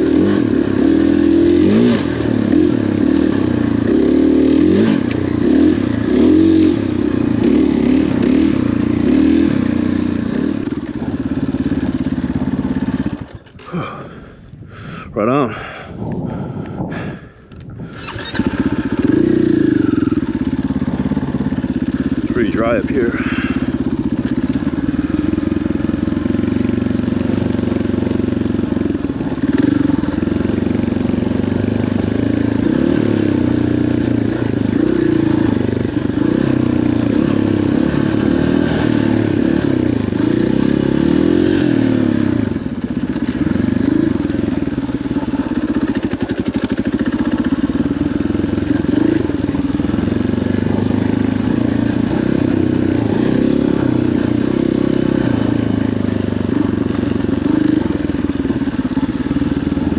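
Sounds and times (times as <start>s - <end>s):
dirt bike engine revving: 0.0s - 14.2s, 17.7s - 59.9s.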